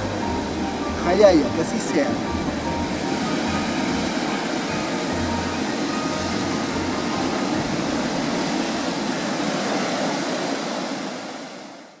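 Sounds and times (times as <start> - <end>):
ocean surf breaking on rocks: 0.0 - 12.0.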